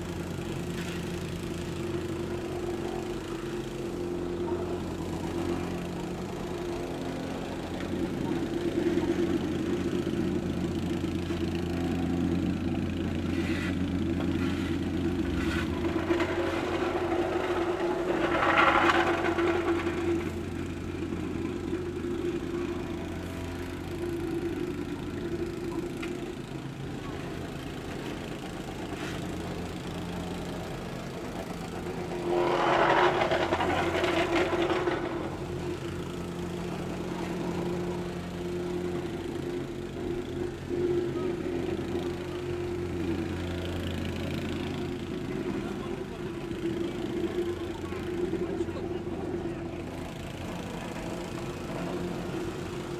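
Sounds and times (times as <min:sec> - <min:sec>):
plate compactor engine humming: 0:00.0 - 0:52.9.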